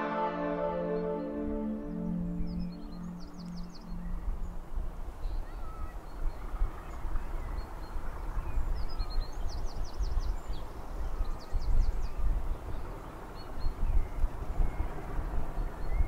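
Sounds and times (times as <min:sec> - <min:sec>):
small birds singing: 0:00.9 - 0:16.0
wind rumble on microphone: 0:02.4 - 0:16.0.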